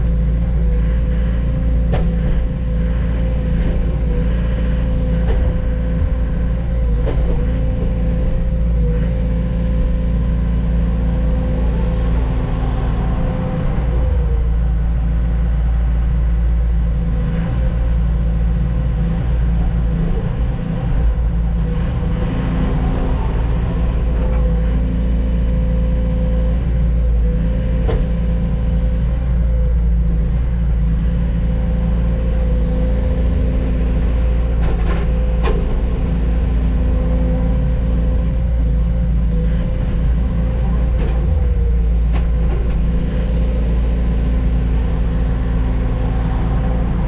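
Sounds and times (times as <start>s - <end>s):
heavy diesel truck engine running: 0.0s - 47.0s.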